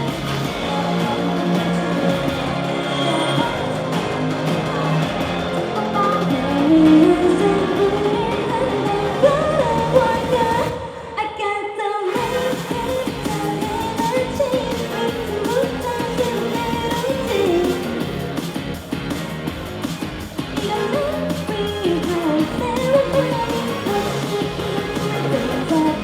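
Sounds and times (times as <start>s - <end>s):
woman singing: 0.0s - 18.5s, 20.4s - 26.0s.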